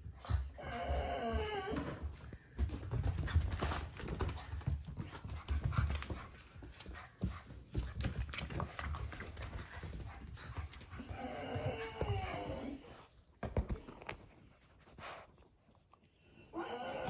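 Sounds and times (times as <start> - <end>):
puppies scuffling: 0.0 - 15.3.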